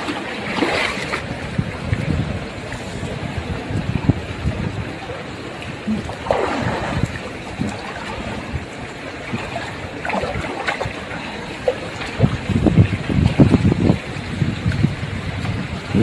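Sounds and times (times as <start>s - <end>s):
river water lapping and gurgling: 0.0s - 16.0s
water splashes: 0.0s - 16.0s.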